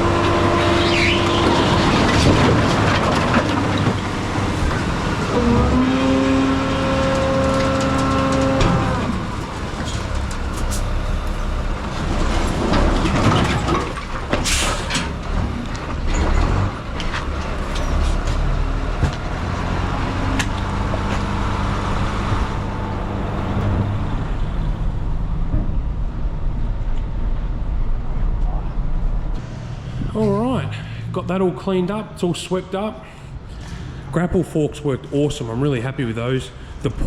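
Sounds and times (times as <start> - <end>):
skid steer engine running: 0.0 - 30.0.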